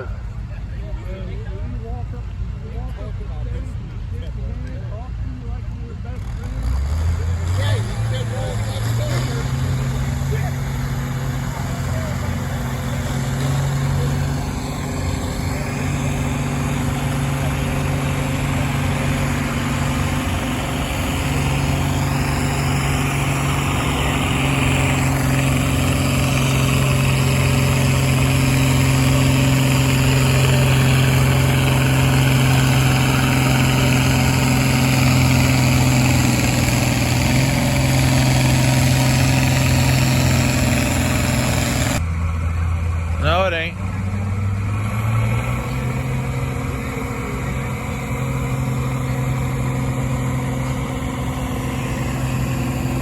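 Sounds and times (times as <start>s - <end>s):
tractor engine running: 5.6s - 53.0s.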